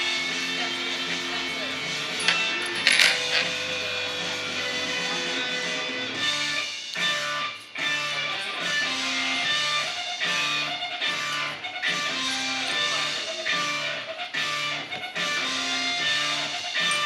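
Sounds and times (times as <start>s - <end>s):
guitar repeating pattern: 0.0s - 17.0s.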